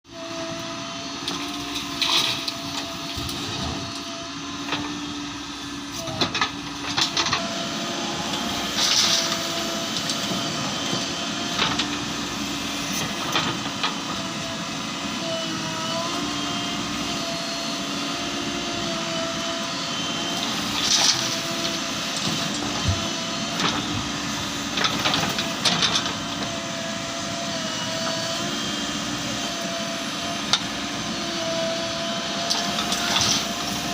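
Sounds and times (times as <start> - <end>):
diesel engine working under load: 0.1 - 33.9.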